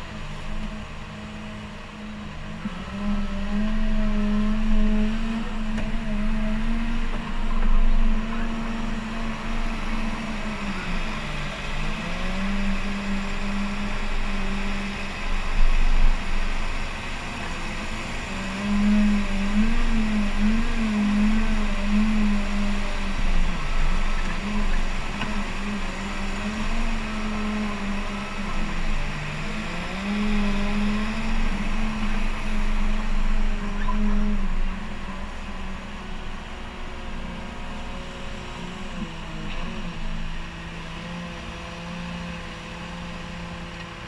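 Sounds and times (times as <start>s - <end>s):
wheel loader diesel engine revving: 0.0s - 44.0s.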